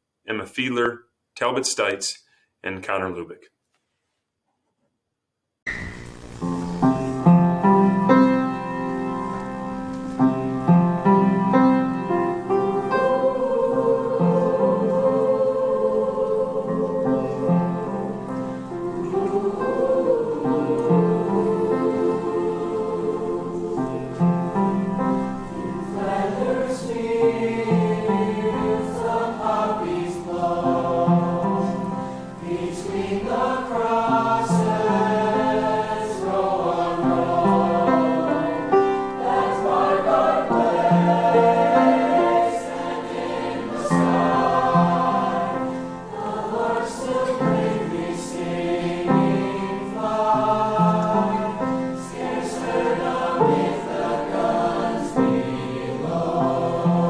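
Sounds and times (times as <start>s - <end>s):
choir singing sustained chords: 5.7s - 57.0s.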